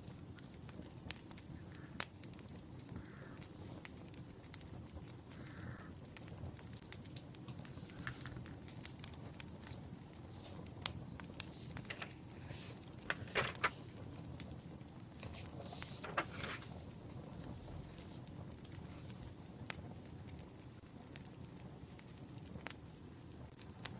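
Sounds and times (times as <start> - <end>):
low rumble of flames: 0.0 - 23.9
wood fire crackling: 0.0 - 23.9.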